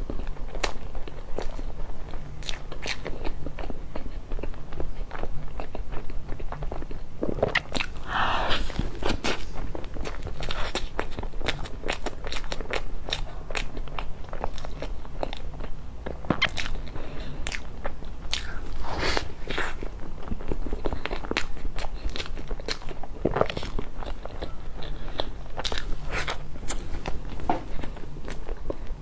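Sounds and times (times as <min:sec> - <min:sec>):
chewing soft pastry: 0:00.0 - 0:29.0.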